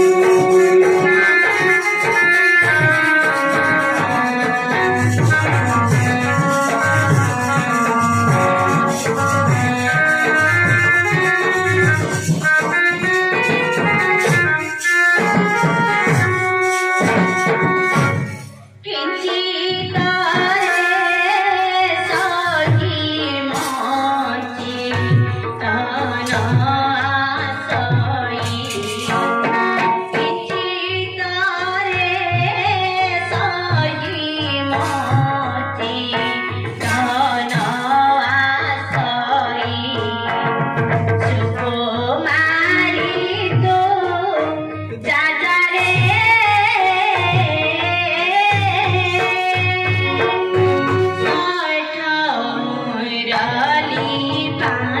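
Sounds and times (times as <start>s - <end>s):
person singing through loudspeakers: 0.0s - 14.8s, 15.4s - 55.0s
hand drum beating: 0.0s - 18.6s, 21.7s - 51.6s.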